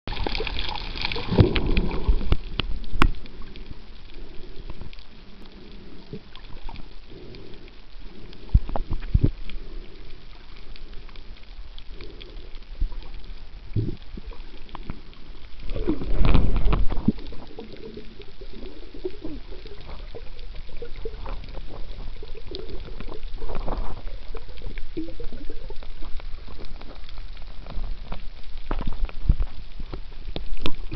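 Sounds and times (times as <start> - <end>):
gurgling rush of bubbles: 0.1 - 30.9
muffled underwater noise: 0.1 - 30.9.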